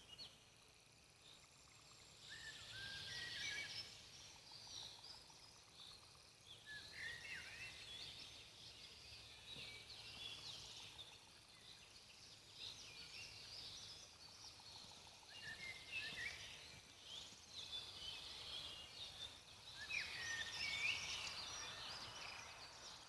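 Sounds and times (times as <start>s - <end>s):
faint low background hiss: 0.0s - 23.0s.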